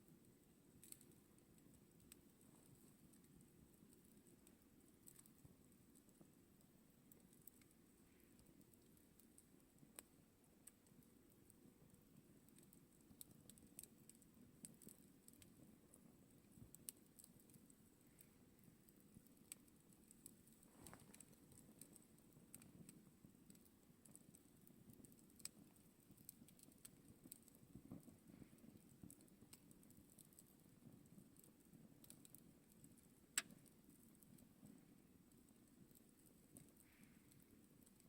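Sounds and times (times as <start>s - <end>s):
wood crackling and popping: 0.0s - 38.0s.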